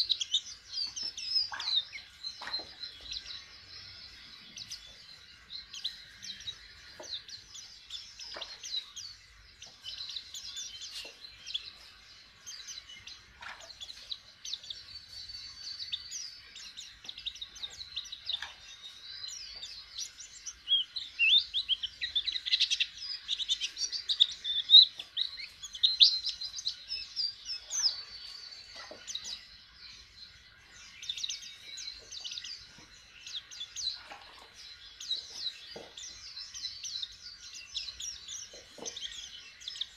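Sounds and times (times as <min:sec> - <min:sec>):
bird twittering and chirping: 0:00.0 - 0:39.9.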